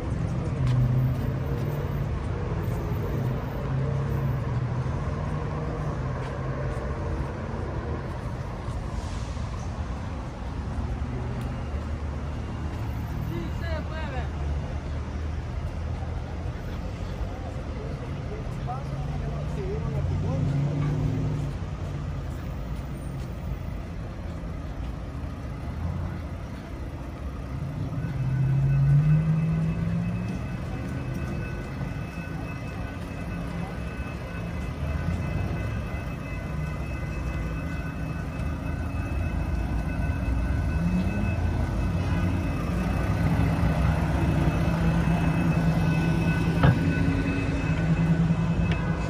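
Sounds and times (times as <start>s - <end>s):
low rumble of road traffic: 0.0s - 49.0s.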